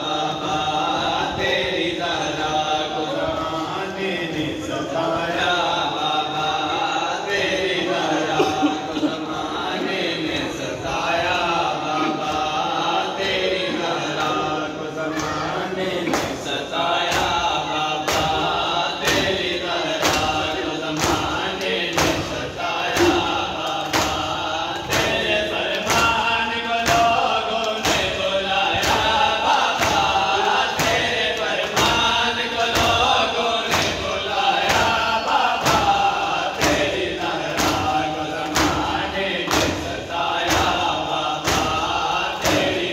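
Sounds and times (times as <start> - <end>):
men chanting a lament: 0.0 - 42.9
men slapping chests: 7.4 - 42.9.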